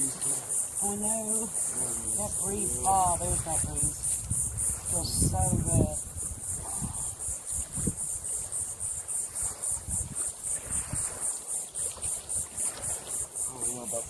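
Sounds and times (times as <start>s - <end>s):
cicadas calling: 0.0s - 14.0s
wind buffeting microphone: 0.5s - 14.0s.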